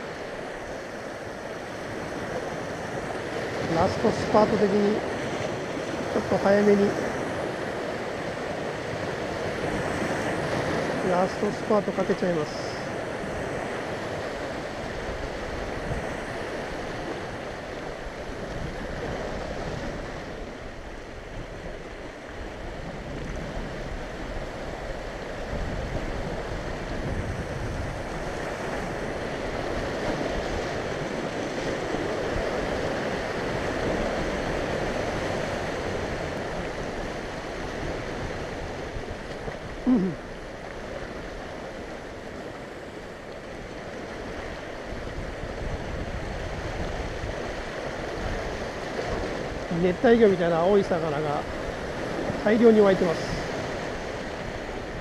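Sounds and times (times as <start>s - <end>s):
waves breaking on rocks: 1.6s - 55.0s.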